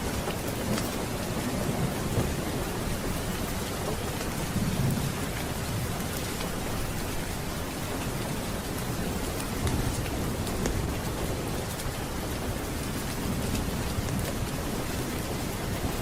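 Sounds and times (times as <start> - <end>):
heavy rain: 0.0 - 16.0
low rolling thunder: 0.0 - 16.0.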